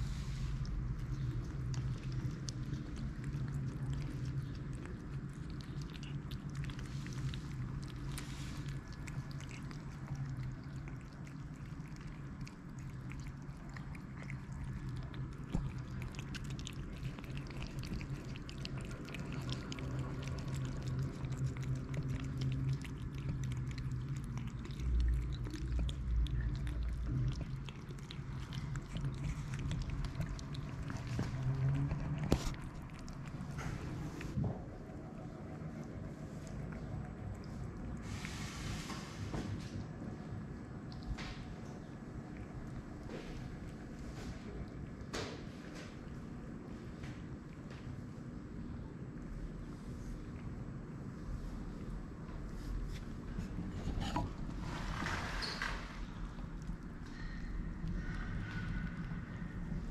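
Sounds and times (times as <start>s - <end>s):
cats chewing and lapping food: 0.0s - 59.9s
steady low hum: 0.0s - 59.9s.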